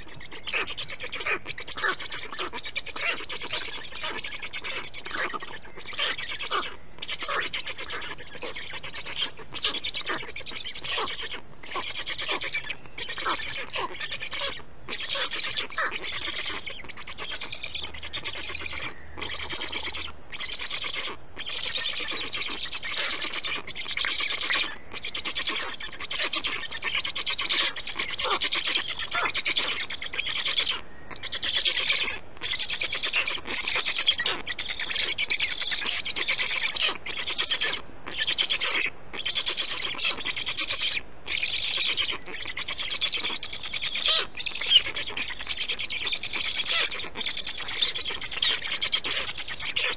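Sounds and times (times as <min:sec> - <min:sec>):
bird chicks rasping begging calls: 0:00.0 - 0:49.9.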